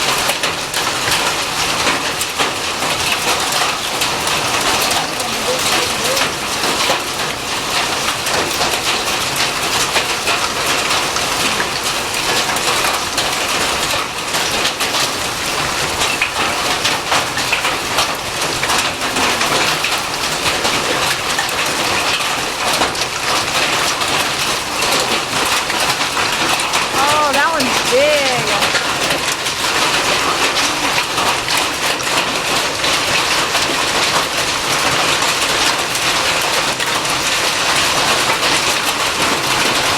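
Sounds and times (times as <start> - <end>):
hail clattering on surfaces: 0.0 - 27.9, 29.1 - 39.9
rush of heavy precipitation: 0.0 - 39.9.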